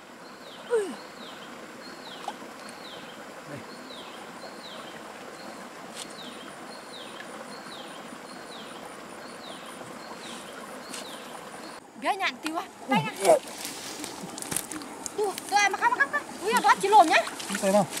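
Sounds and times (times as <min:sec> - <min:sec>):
faint insects pulsing: 0:00.0 - 0:18.0.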